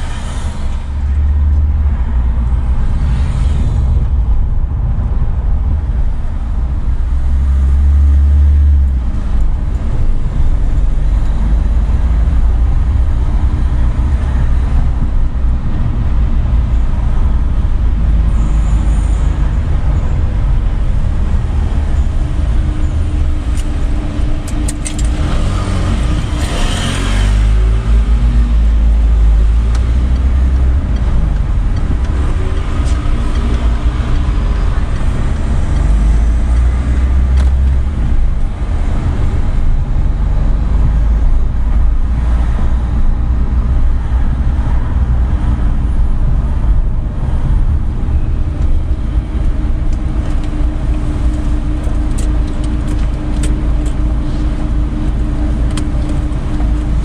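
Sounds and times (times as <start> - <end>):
engine and road noise rumble: 0.0 - 57.0.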